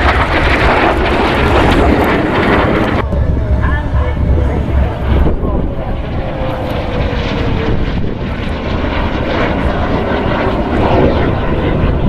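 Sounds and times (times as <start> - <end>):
jet aircraft flying by: 0.0 - 12.0.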